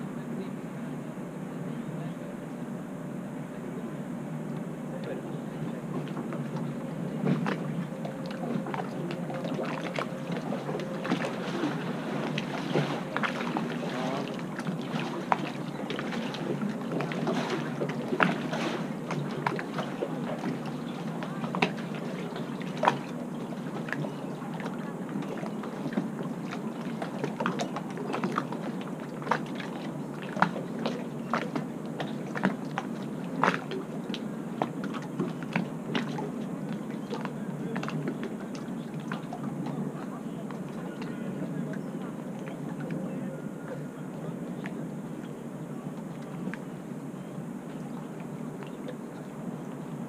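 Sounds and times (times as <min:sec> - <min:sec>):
steady background hiss: 0:00.0 - 0:50.0
water lapping against boats: 0:00.0 - 0:50.0.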